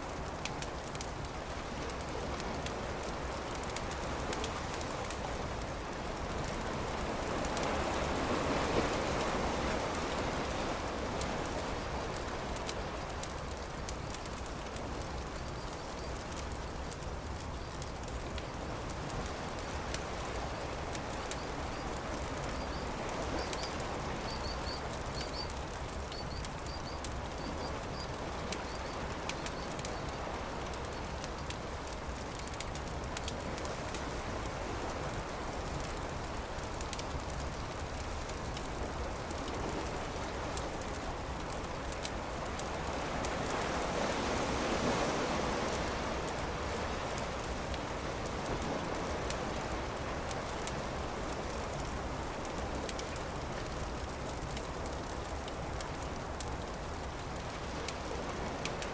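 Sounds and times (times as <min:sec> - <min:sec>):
steady rushing wash: 0:00.0 - 0:58.9
campfire crackling and popping: 0:00.1 - 0:58.9.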